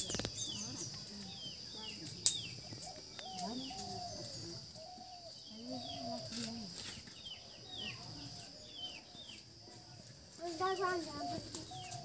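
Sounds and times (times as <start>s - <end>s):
low wavering bird calls: 0.0s - 9.5s, 10.8s - 12.0s
small birds chirping: 0.0s - 12.0s.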